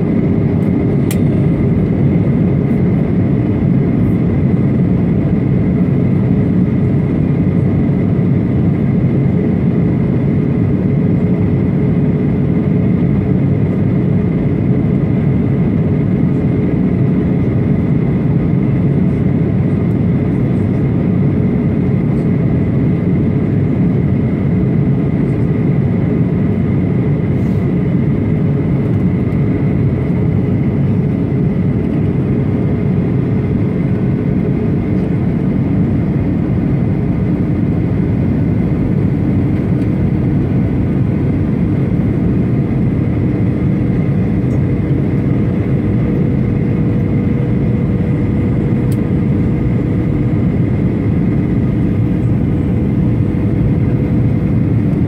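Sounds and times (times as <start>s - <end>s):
faint steady whine: 0.0s - 55.0s
jet engine drone and airflow: 0.0s - 55.0s.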